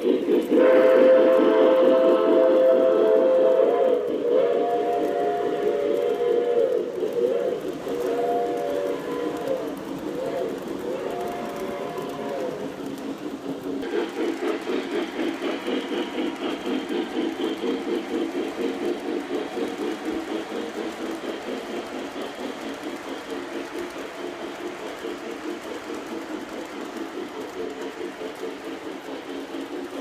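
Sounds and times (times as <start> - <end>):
model train motor hum: 0.0 - 30.0.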